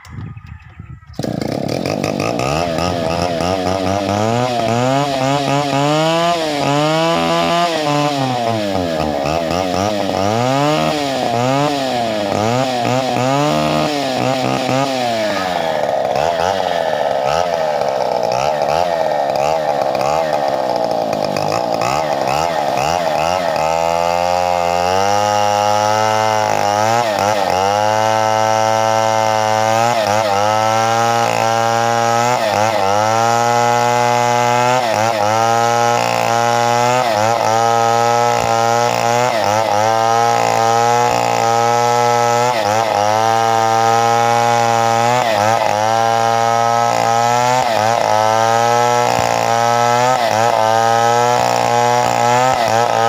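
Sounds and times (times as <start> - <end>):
chainsaw cutting wood: 1.2 - 53.0.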